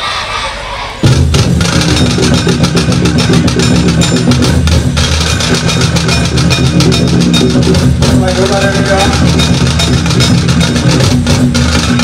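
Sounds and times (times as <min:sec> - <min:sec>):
sharp drum strokes: 0:00.0 - 0:12.0
barrel drums beating: 0:01.0 - 0:12.0.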